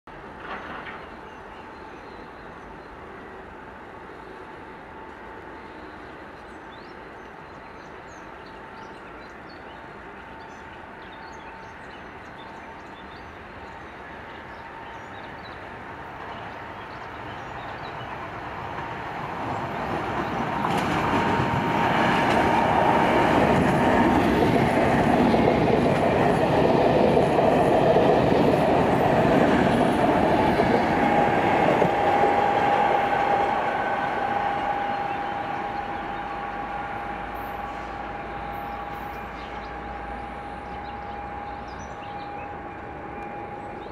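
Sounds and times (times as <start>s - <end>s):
electric locomotive passing: 0.1s - 43.9s
train whine: 0.1s - 43.9s.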